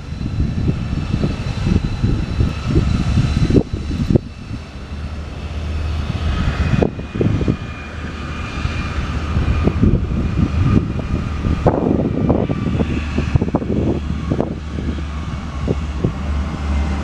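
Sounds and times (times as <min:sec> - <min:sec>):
gusty low buffeting: 0:00.0 - 0:17.0
low engine drone with whine: 0:00.0 - 0:17.0.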